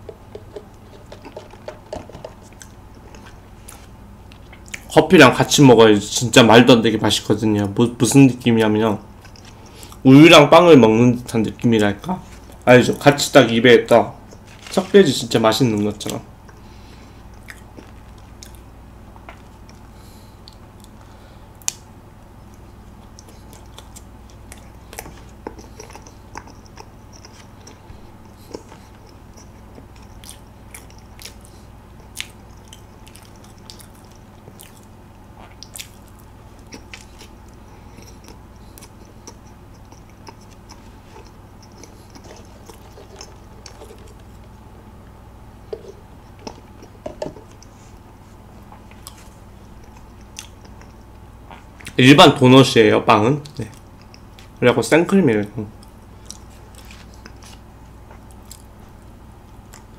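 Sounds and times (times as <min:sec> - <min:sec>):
person chewing: 0:00.0 - 0:04.9, 0:09.1 - 0:10.0, 0:14.2 - 0:15.0, 0:16.0 - 0:52.0, 0:53.4 - 0:54.6, 0:55.7 - 0:59.9
steady low hum: 0:00.0 - 0:59.9.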